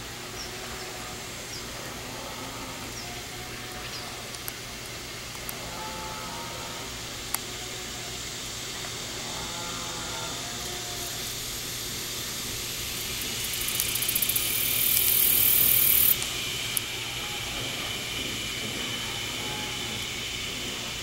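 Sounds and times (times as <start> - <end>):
cicada buzzing: 0.0 - 21.0
high insect chorus: 0.0 - 21.0.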